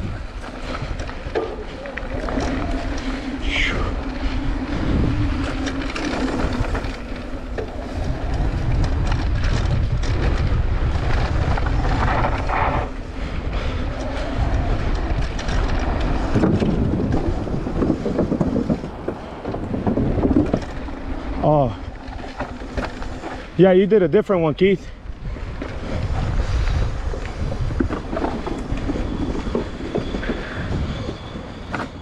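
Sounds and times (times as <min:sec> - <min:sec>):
wind on microphone: 0:00.0 - 0:23.6, 0:24.4 - 0:32.0
bike rattling over bumps: 0:00.0 - 0:32.0
bike tyres rumbling on dirt: 0:00.0 - 0:32.0.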